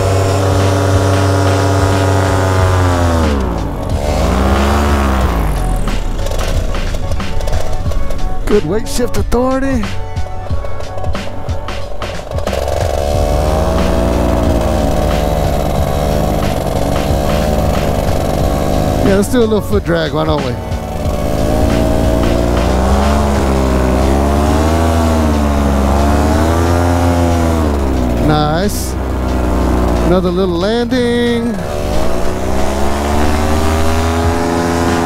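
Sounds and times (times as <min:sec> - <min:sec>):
paramotor engine running: 0:00.0 - 0:35.0.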